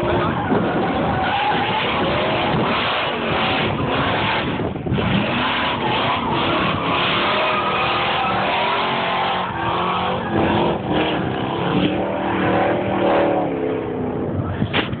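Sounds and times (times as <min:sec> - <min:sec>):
car engine revving: 0:00.0 - 0:14.6
tyres skidding: 0:00.0 - 0:15.0.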